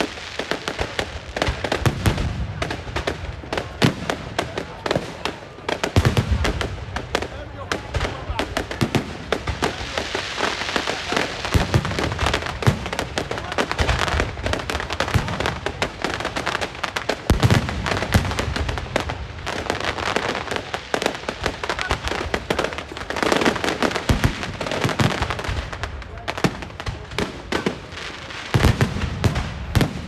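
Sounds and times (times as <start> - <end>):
firecrackers crackling: 0.0 - 30.0
heavy firework bangs: 0.0 - 30.0.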